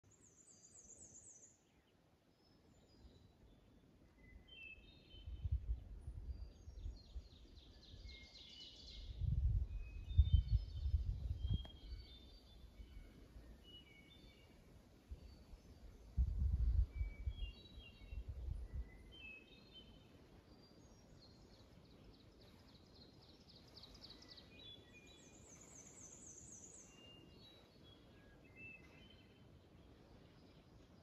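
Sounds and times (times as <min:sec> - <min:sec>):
songbirds singing: 0:00.0 - 0:31.0.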